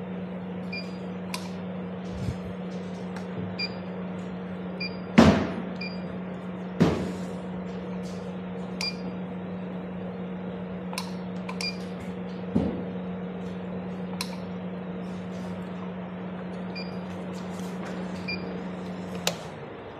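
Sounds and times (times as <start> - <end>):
machine electrical hum: 0.0 - 19.9.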